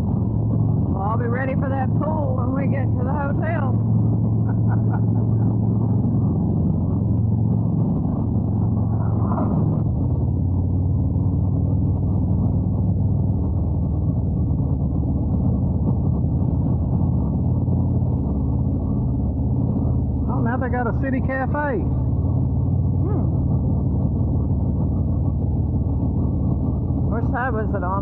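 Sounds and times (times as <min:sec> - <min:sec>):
motorcycle engine running: 0:00.0 - 0:28.0
wind rush on microphone: 0:00.0 - 0:28.0.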